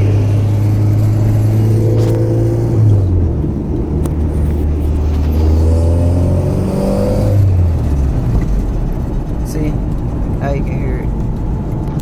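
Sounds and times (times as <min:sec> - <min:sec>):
car engine hum from inside: 0:00.0 - 0:12.0.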